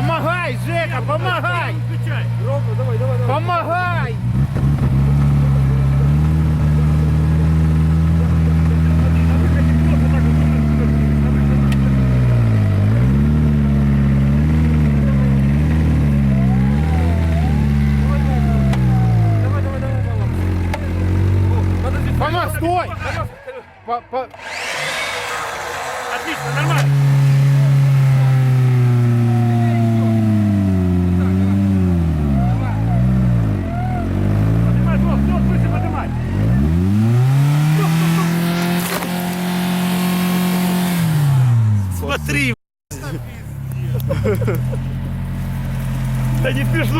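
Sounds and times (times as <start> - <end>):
car engine revving under load: 0.0 - 23.4, 24.3 - 42.4, 43.0 - 46.9.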